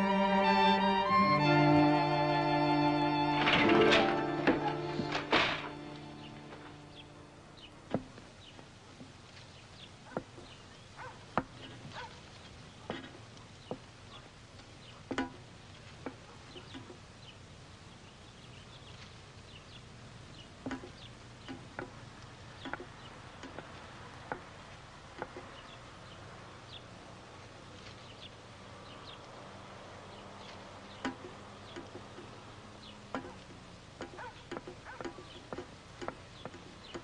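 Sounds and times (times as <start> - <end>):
faint low steady hum: 0.0 - 37.0.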